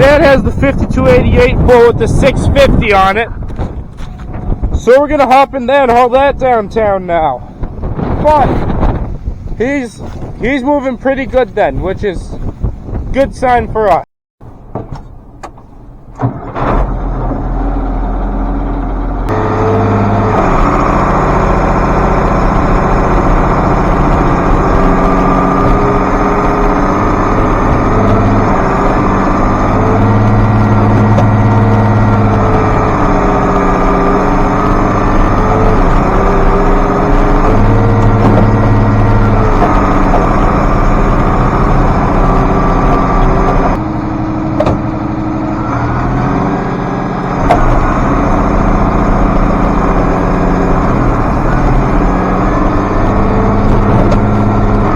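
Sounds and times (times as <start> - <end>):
tractor diesel engine running: 0.0 - 13.6, 14.4 - 54.9.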